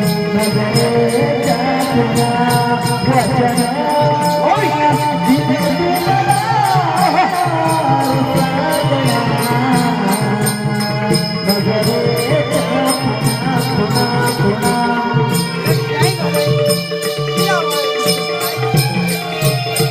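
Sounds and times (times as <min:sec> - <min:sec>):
folk music with drone and melody: 0:00.0 - 0:19.9
steady percussion beat: 0:00.0 - 0:19.9.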